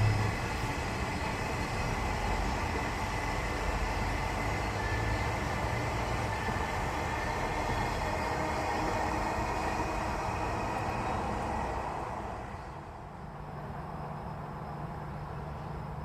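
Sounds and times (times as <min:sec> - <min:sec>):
train running on rails: 0:00.0 - 0:16.0.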